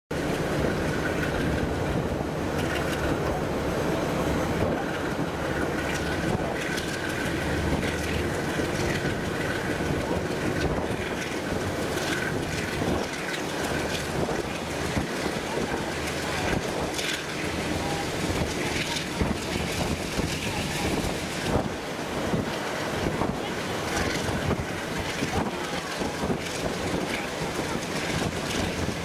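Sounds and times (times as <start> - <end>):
train wheels rumbling on rails: 0.1 - 29.0.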